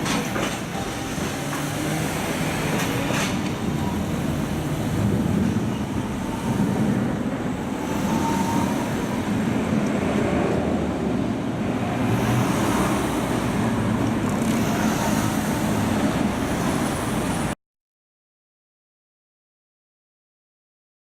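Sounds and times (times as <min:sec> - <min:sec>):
rumble of passing vehicles: 0:00.0 - 0:17.6.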